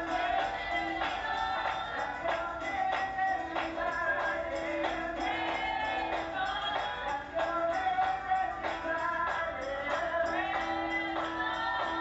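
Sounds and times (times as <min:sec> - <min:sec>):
church praise singing: 0:00.0 - 0:12.0
tambourine struck on the beat: 0:00.0 - 0:12.0.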